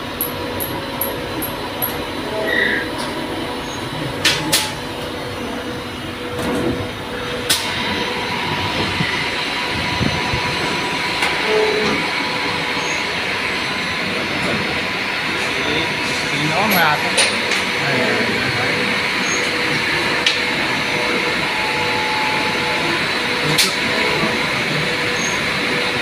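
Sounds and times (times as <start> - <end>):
machinery running: 0.0 - 26.0.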